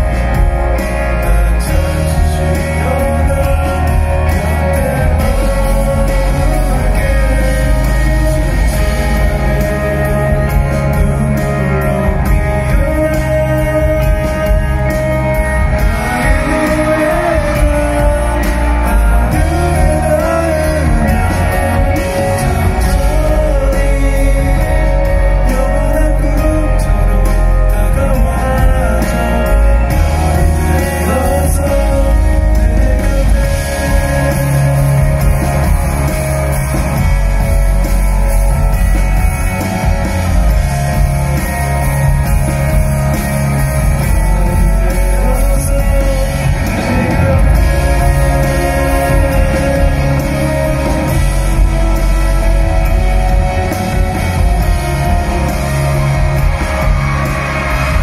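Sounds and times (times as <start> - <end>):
man singing a slow ballad: 0.0 - 37.5, 41.8 - 53.6
live band accompaniment: 0.0 - 58.0.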